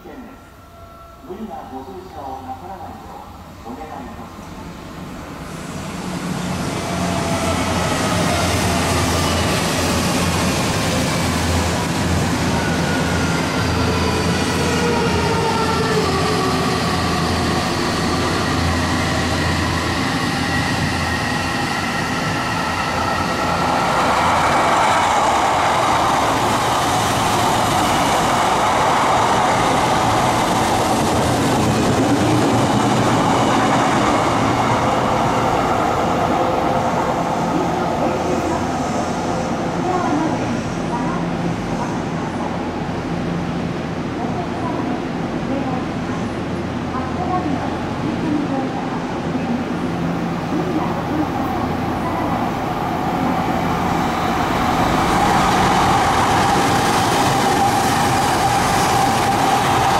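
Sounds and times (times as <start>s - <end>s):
train wheel and running noise: 0.0s - 59.9s.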